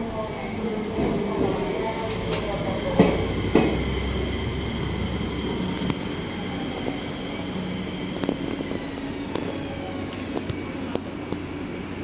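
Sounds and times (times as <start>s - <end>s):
electric train whine and rumble: 0.0s - 12.0s.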